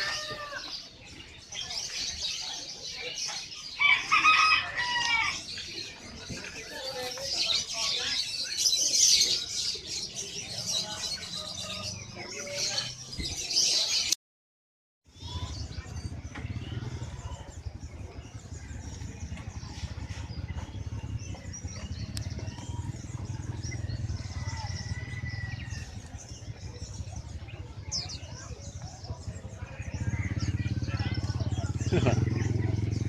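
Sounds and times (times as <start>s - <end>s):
birds chirping and twittering: 0.0s - 14.2s, 15.0s - 33.0s.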